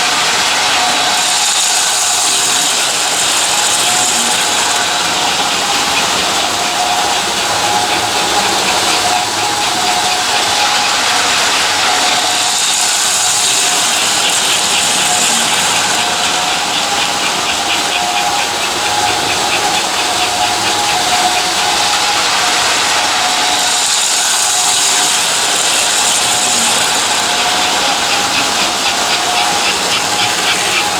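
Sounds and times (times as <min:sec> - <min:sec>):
hiss: 0:00.0 - 0:30.9
rapid clatter from track: 0:00.0 - 0:30.9
toy train motor hum: 0:00.0 - 0:30.9.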